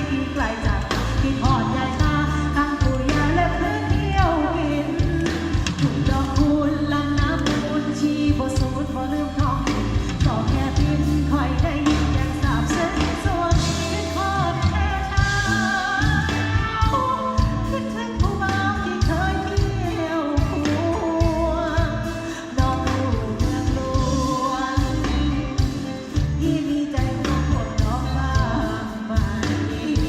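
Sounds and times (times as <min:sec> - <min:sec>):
band music with wavering melody: 0:00.0 - 0:30.0
drum and bass beat: 0:00.0 - 0:30.0.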